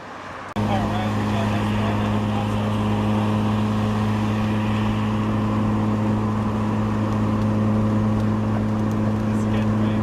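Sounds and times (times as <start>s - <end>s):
car engine running: 0.6s - 10.0s.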